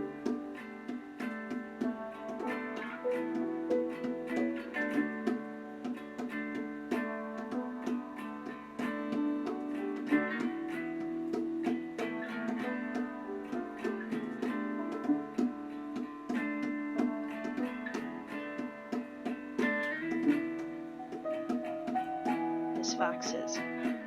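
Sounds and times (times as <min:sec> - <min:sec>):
plucked acoustic guitar: 0:00.0 - 0:24.0.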